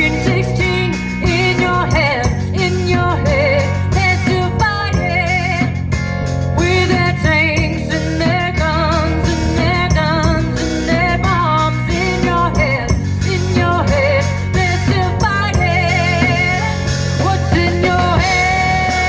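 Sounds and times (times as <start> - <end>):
person singing: 0.0 - 5.8, 6.6 - 19.0
guitar: 0.0 - 19.0
rock band playing: 0.0 - 19.0
steady bass: 0.0 - 19.0.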